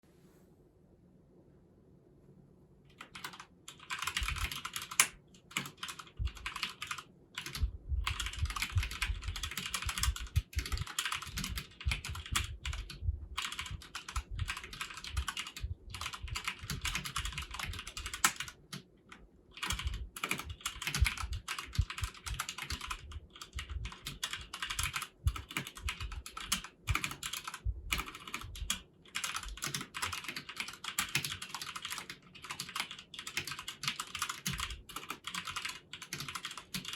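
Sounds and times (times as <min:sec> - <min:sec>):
mechanical keyboard typing: 0:02.9 - 0:36.9.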